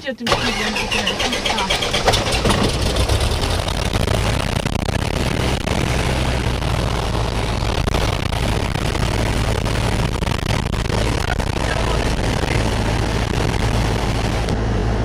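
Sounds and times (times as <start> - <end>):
propeller plane engine running: 0.0 - 15.0.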